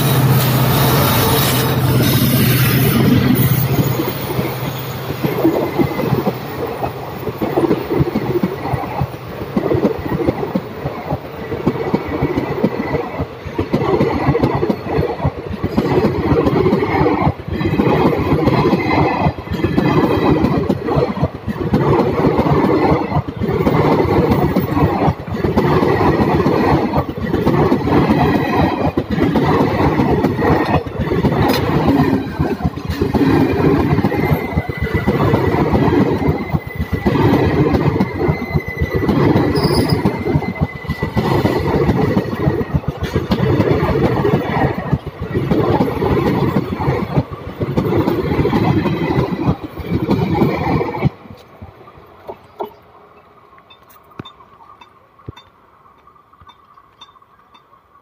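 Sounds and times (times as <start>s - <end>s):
train wheels clattering: 0.0s - 51.6s
locomotive hum: 0.0s - 58.0s.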